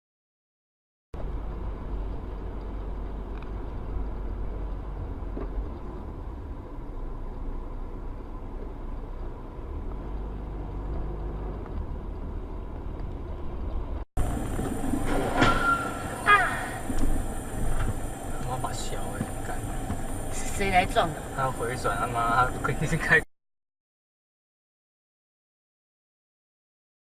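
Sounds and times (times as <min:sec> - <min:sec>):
vehicle driving rumble: 0:01.2 - 0:23.3.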